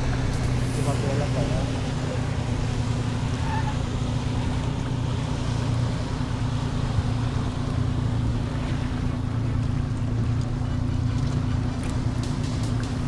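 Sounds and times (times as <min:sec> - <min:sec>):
boat motor humming: 0:00.0 - 0:13.0
water noise: 0:00.0 - 0:13.0
wind: 0:00.0 - 0:13.0.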